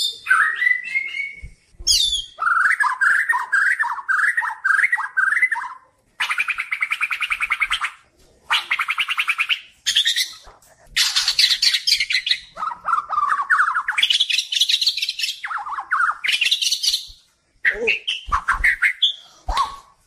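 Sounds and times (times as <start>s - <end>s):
songbird singing trills and whistles: 0.0s - 10.4s, 11.0s - 20.0s.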